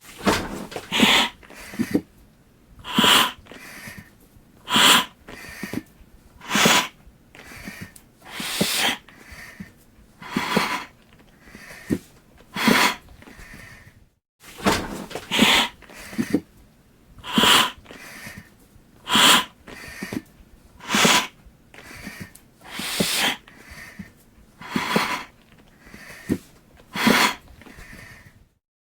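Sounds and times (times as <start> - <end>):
hissing breaths through oxygen mask: 0.2 - 2.1, 2.8 - 4.1, 4.7 - 13.9, 14.6 - 16.5, 17.2 - 20.2, 20.8 - 28.4.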